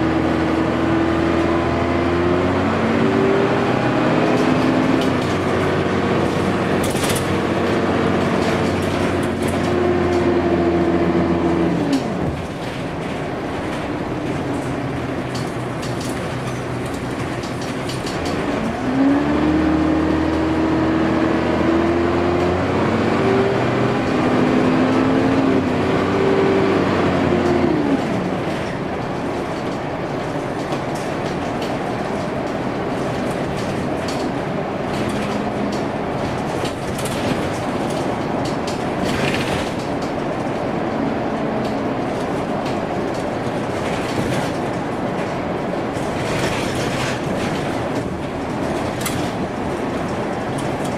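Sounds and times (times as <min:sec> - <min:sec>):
bus engine accelerating: 0:00.0 - 0:50.9
bus rattles: 0:00.0 - 0:50.9
whine over engine: 0:00.0 - 0:50.9.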